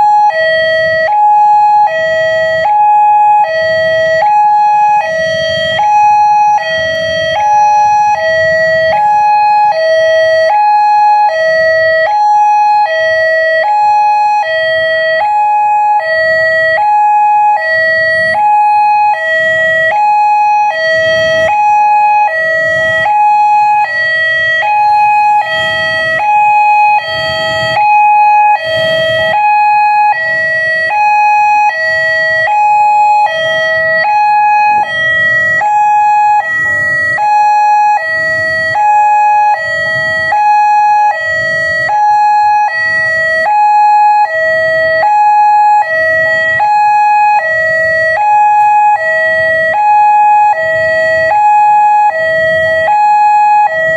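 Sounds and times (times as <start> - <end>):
level crossing two-tone alarm: 0.0 - 53.9.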